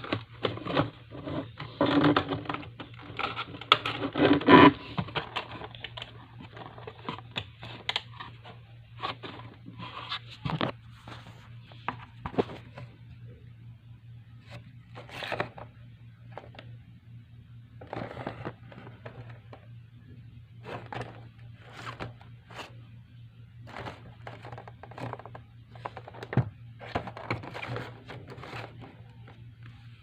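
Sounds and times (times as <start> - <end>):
cardboard and plastic rustling: 0.0 - 13.0, 14.4 - 16.7, 17.8 - 19.7, 20.6 - 22.8, 23.6 - 29.5.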